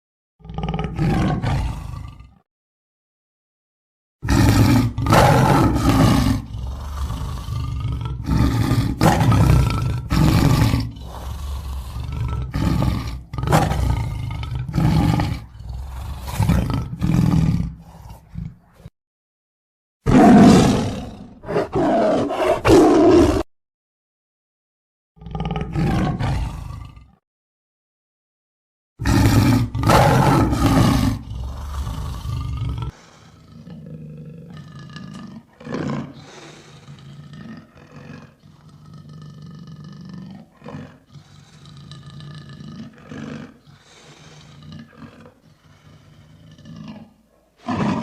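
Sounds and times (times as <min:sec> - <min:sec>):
lion roaring and grunting: 0:00.4 - 0:02.4, 0:04.2 - 0:18.9, 0:20.1 - 0:23.5, 0:25.2 - 0:27.2, 0:29.0 - 0:48.0.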